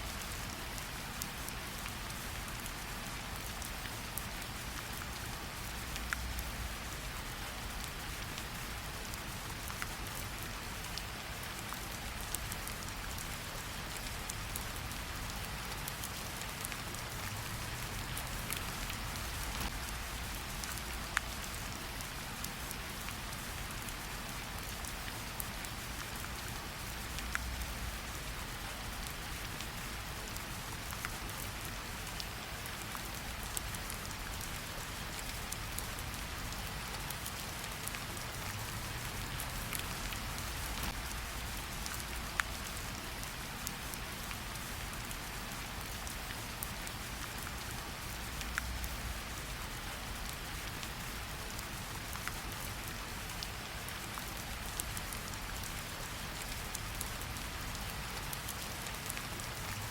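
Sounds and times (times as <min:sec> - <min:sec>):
light rain on leaves: 0:00.0 - 0:59.9.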